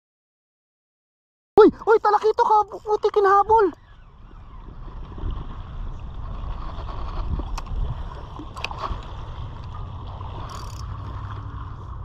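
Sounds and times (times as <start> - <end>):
wind buffeting microphone: 2.0 - 12.0.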